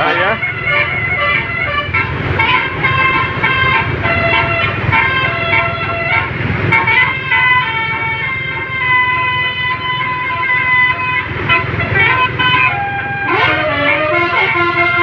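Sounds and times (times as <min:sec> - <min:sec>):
bus engine rumble: 0:00.0 - 0:15.0
multi-tone bus horns tune: 0:00.0 - 0:15.0.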